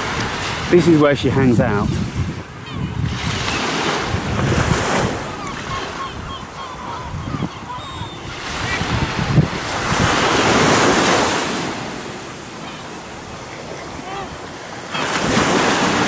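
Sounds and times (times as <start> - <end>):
sea waves breaking: 0.0 - 16.0
wind buffeting microphone: 0.0 - 16.0.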